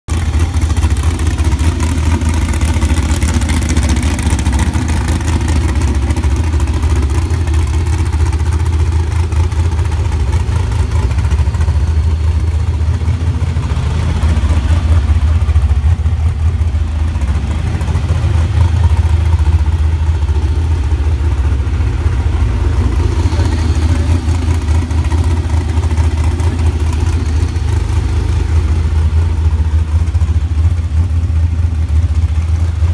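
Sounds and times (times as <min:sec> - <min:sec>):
engine idling with deep exhaust: 0:00.1 - 0:32.9.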